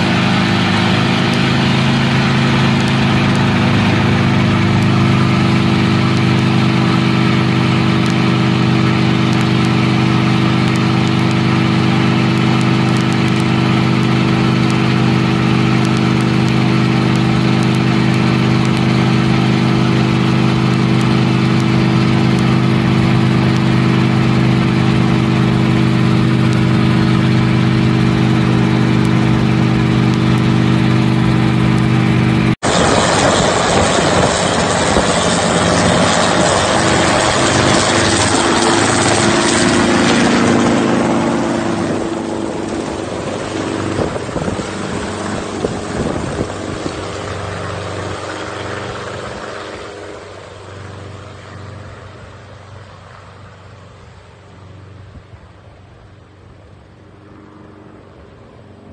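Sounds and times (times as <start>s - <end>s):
helicopter engine and rotors droning: 0.0s - 58.9s.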